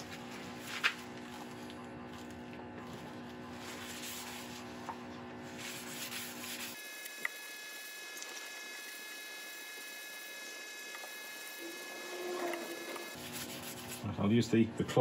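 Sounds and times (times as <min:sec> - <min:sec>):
mains electrical hum: 0:00.0 - 0:15.0.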